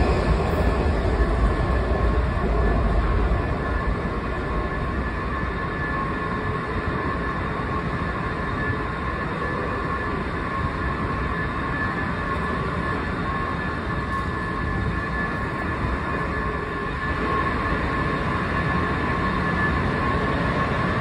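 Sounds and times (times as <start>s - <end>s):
high whining tones: 0.0s - 21.0s
station machinery rumble and hum: 0.0s - 21.0s.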